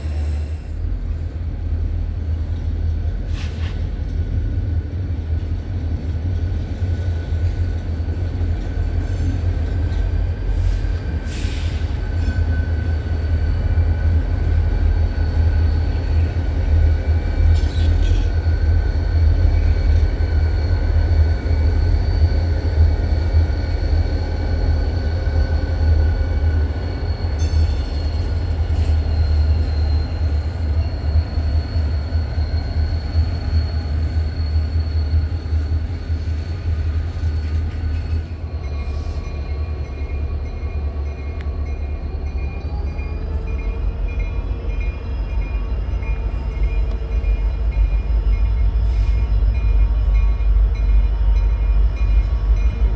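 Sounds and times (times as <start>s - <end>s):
diesel locomotive engine rumble: 0.0s - 52.9s.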